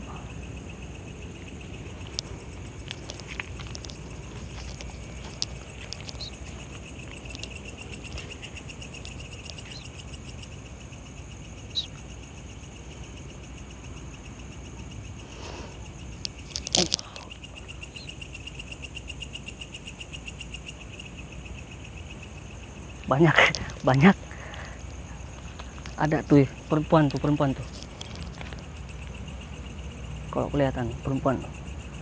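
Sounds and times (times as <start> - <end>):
crickets trilling: 0.0 - 32.0.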